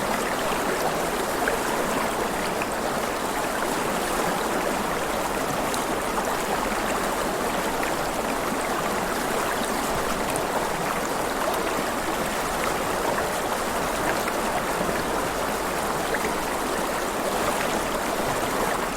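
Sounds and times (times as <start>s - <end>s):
river water babbling over stones: 0.0s - 18.9s.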